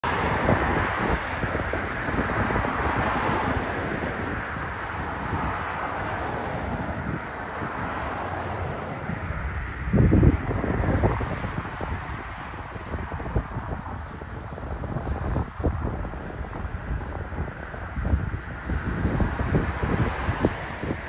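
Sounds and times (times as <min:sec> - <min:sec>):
jet engine noise: 0:00.0 - 0:21.0
wind buffeting microphone: 0:00.0 - 0:21.0.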